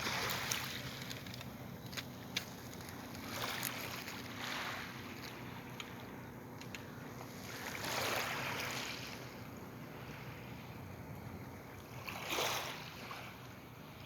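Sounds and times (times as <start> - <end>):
small waves washing onto beach: 0.0 - 6.2, 7.1 - 10.8, 11.7 - 14.0.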